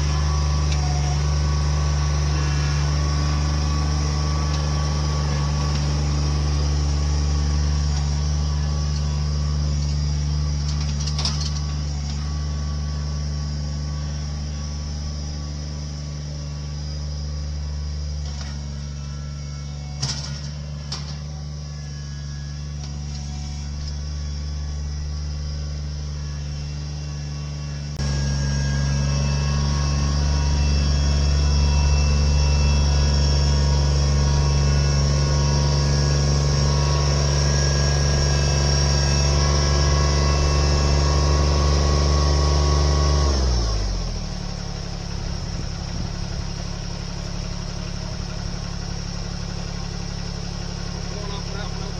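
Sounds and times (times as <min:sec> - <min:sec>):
heavy machinery engine running: 0:00.0 - 0:51.9.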